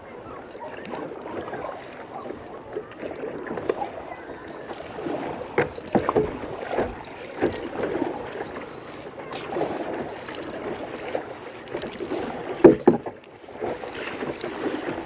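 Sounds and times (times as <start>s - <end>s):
water splashing from paddle: 0.0s - 15.0s.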